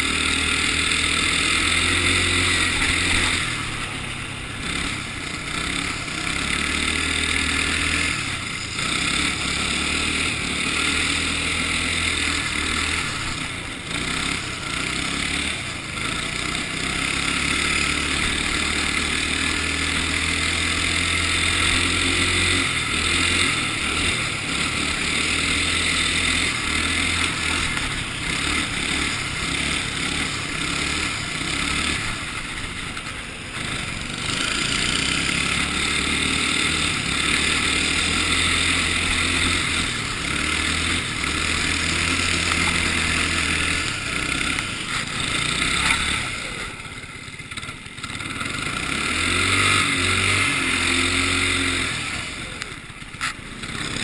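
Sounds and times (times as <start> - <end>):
kart engine under throttle: 0.0 - 54.0.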